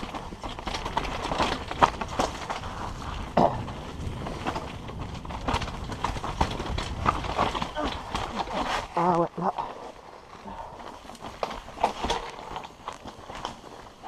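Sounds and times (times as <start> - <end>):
bike clattering: 0.0 - 9.0, 9.9 - 14.0
tyres crunching over stones: 0.0 - 14.0.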